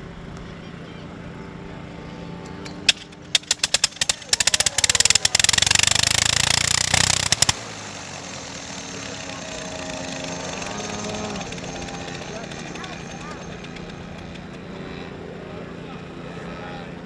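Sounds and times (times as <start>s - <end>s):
aircraft engine starting: 0.0s - 17.0s.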